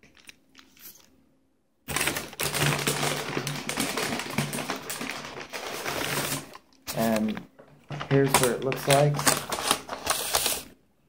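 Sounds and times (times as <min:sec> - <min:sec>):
paper wrapping crinkling: 0:01.9 - 0:10.8.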